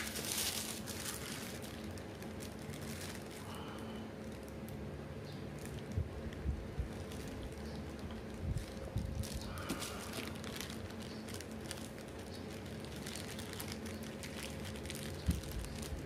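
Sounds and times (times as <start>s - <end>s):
steady low hum: 0.0s - 16.0s
thin plastic bag crinkling: 0.0s - 16.0s.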